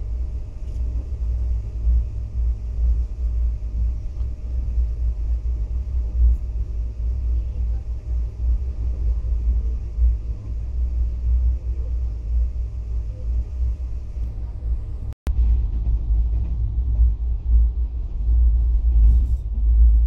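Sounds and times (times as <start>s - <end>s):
train coach rumbling at speed: 0.0s - 20.0s.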